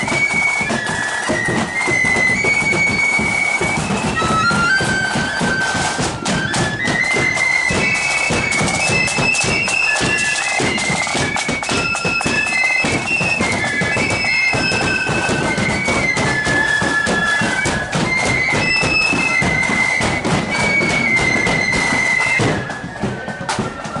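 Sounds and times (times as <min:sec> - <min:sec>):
flutes playing melody: 0:00.0 - 0:24.0
snare drum beats: 0:00.0 - 0:24.0.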